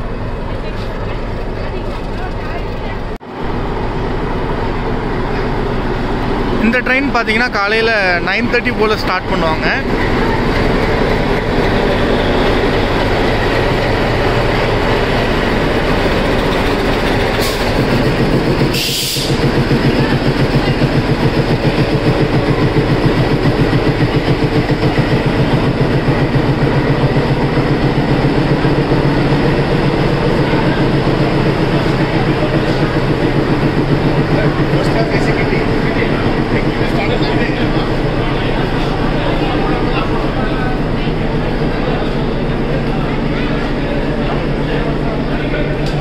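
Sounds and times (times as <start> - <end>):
train mechanical rumble: 0.0 - 46.0.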